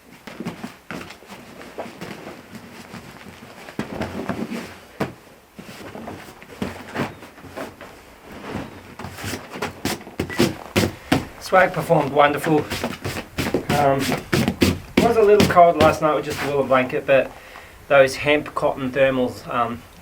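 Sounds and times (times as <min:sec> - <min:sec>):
rustling: 0:00.0 - 0:20.0.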